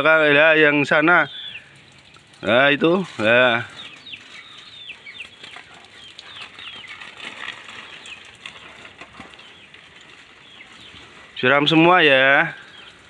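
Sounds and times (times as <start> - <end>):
birds chirping: 0.0 - 13.0
garden hose spraying leaves: 0.7 - 13.0.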